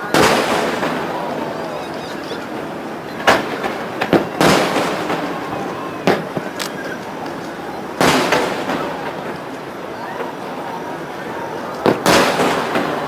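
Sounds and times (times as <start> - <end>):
fireworks bangs: 0.0 - 13.0
lingering rumble: 0.0 - 13.0.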